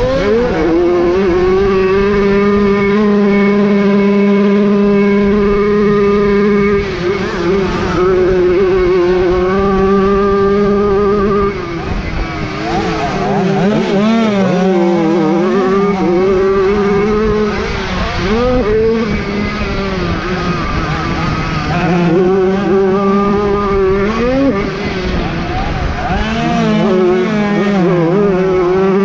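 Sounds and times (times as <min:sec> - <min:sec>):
motorcycle engines revving high: 0:00.0 - 0:29.0.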